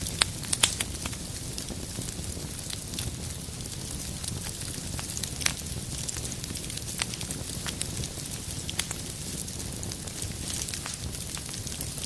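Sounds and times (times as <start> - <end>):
low rumble of flame: 0.0 - 12.0
sharp pops from fire: 0.0 - 12.0
wood fire crackling: 0.0 - 12.0.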